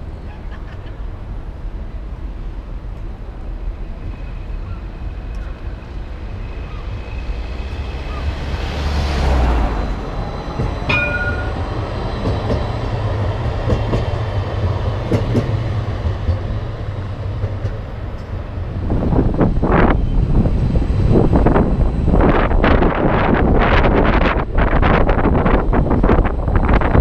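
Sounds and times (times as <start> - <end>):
tram wheels rumbling: 0.0 - 27.0
wind buffeting microphone: 4.7 - 27.0.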